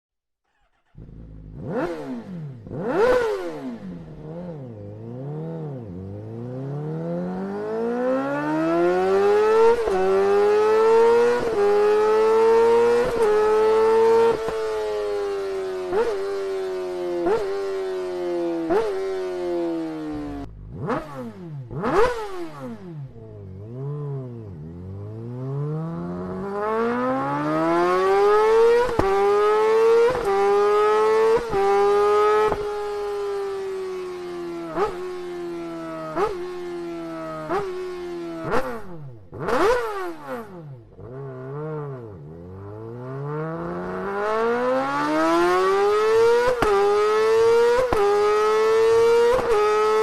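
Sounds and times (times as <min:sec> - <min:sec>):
motorcycle engine revving: 0:00.5 - 0:50.0.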